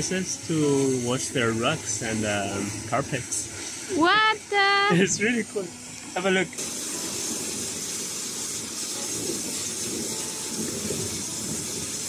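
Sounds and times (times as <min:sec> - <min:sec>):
stream water rushing: 0:01.0 - 0:12.0.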